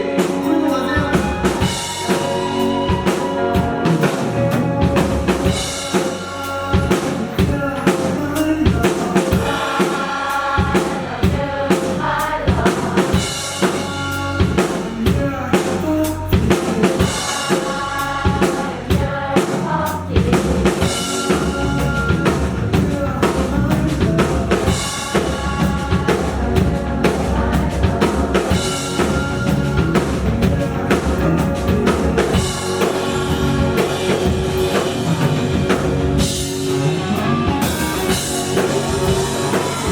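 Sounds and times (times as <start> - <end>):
drum beat: 0.0 - 15.7, 16.4 - 19.2, 20.0 - 39.9
live rock band: 0.0 - 39.9
person singing: 0.0 - 39.9.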